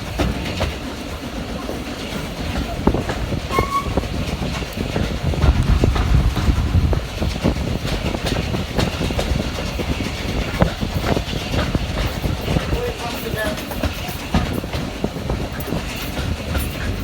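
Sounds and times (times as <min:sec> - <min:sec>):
railway carriage low rumble: 0:00.0 - 0:17.0
wheels clicking over rail joints: 0:00.0 - 0:17.0.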